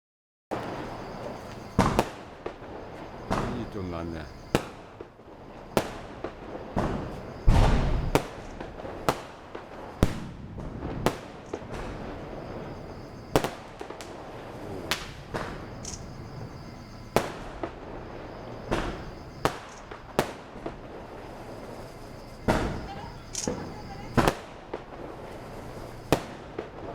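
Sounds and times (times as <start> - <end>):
deep firework boom: 0.5 - 26.9
firecrackers banging: 0.5 - 26.9.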